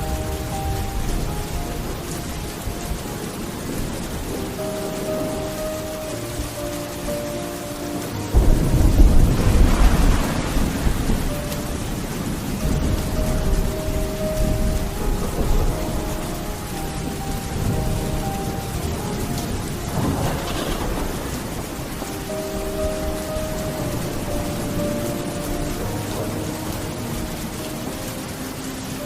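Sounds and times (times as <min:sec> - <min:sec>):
steady rain falling: 0:00.0 - 0:29.0
thunder rumbling: 0:00.0 - 0:29.0.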